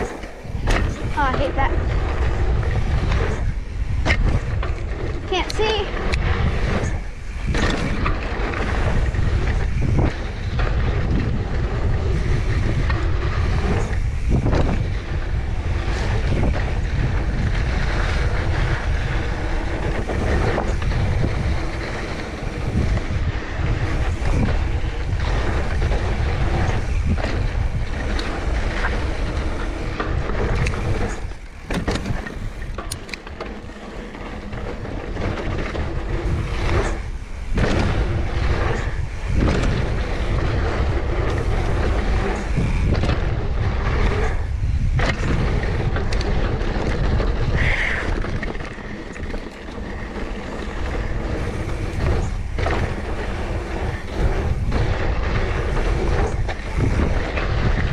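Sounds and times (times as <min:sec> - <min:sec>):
bike knocks and rattles: 0:00.0 - 0:57.9
wind buffeting microphone: 0:00.0 - 0:57.9.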